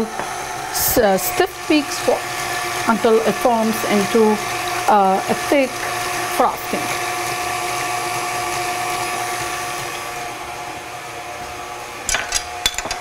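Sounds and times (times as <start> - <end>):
electric mixer whirring: 0.0 - 12.0.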